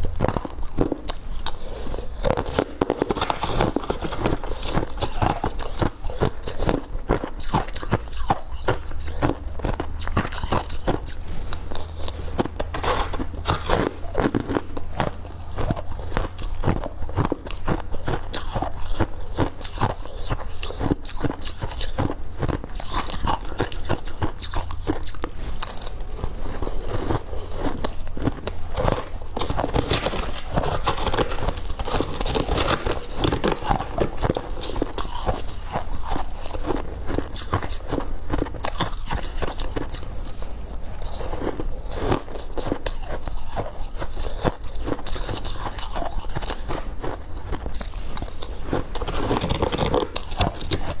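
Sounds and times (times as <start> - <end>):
person chewing ice crunching: 0.0 - 51.0.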